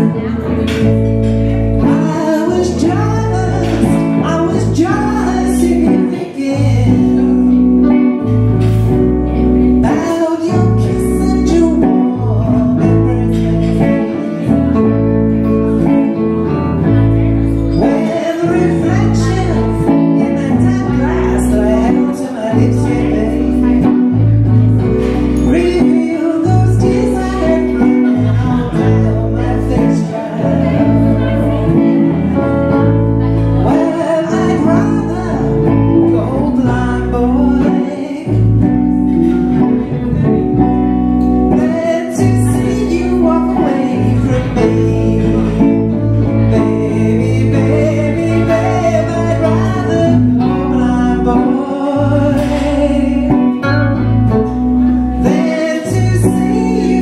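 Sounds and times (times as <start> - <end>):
woman singing into a microphone: 0.0 - 40.1, 40.8 - 57.0
electric guitars: 0.0 - 57.0.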